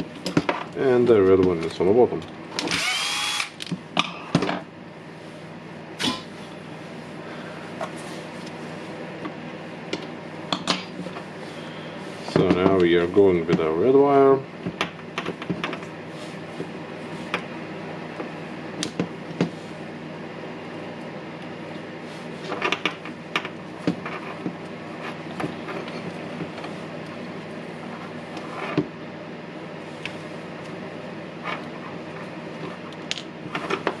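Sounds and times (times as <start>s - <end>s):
steady background hum: 0.0s - 34.0s.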